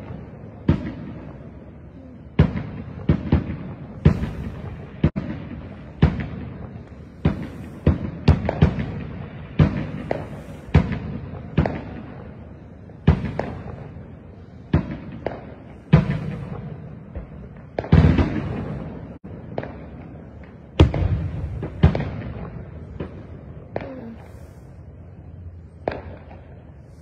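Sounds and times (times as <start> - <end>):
fireworks banging: 0.0 - 27.0.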